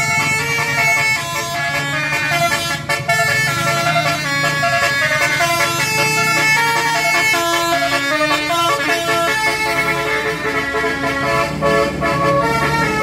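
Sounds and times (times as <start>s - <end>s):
musical bus horn tune: 0.0s - 13.0s.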